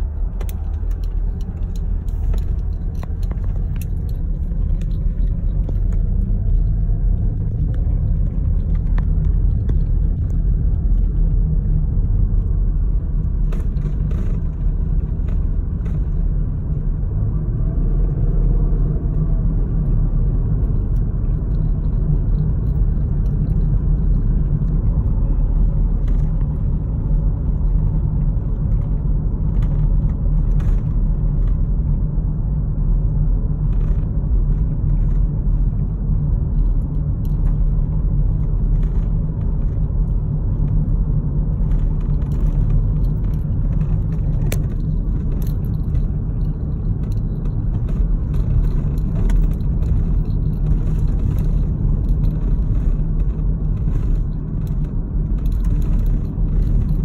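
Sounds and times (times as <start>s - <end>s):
car tyre and road noise: 0.0s - 57.0s.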